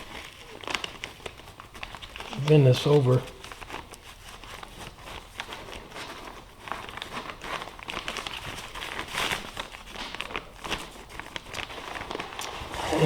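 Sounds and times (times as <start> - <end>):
filter bag crinkling: 0.0 - 13.0.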